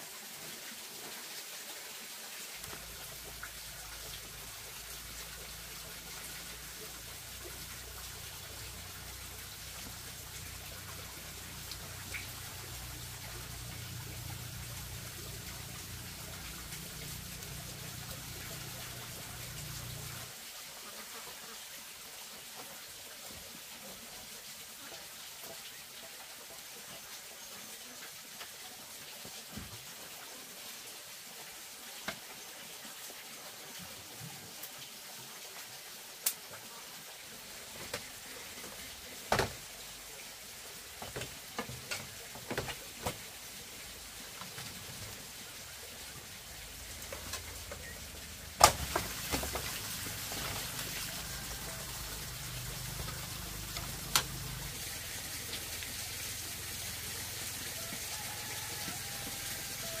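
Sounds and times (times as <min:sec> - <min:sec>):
running stream water: 0:00.0 - 1:00.0.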